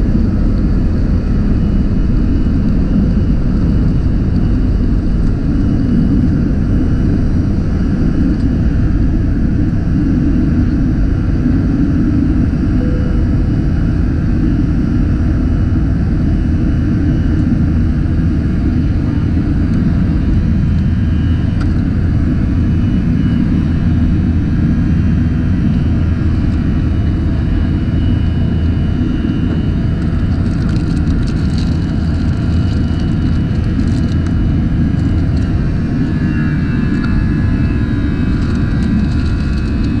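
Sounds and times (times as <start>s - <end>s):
jet engine cabin rumble: 0.0s - 40.0s.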